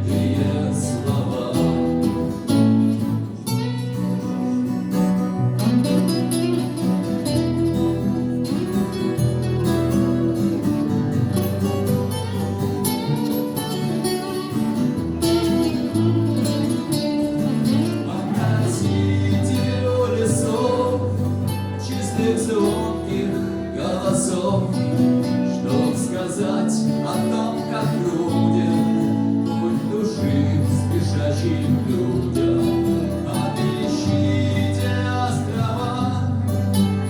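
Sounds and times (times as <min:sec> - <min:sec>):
acoustic guitar instrumental: 0:00.0 - 0:37.0.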